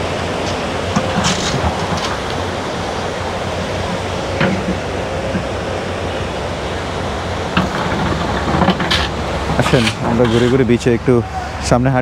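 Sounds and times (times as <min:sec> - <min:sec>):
low steady hum: 0:00.0 - 0:12.0
ocean surf breaking: 0:00.0 - 0:12.0.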